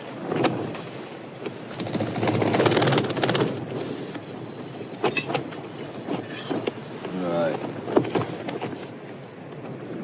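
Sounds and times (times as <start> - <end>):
wind flapping tent fabric: 0.0 - 10.0.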